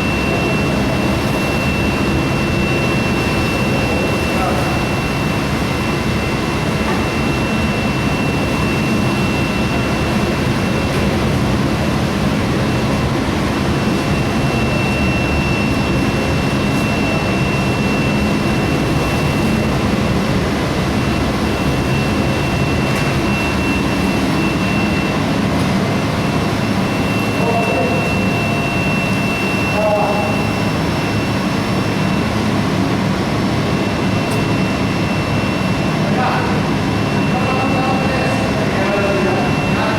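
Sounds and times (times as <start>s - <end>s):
furnace high whine: 0.0s - 39.9s.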